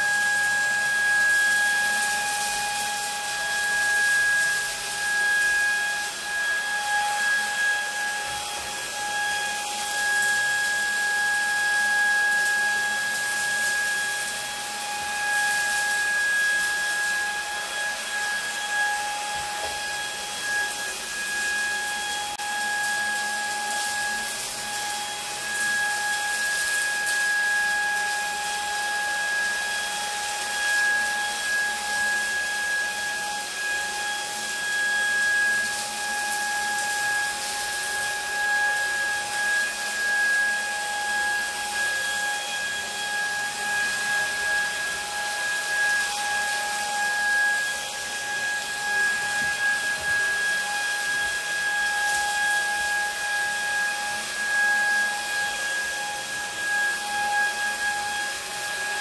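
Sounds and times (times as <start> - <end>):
vacuum motor whine: 0.0 - 59.0.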